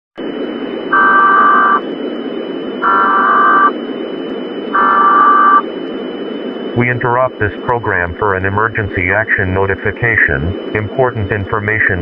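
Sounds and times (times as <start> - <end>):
broadcast static hiss: 0.2 - 12.0.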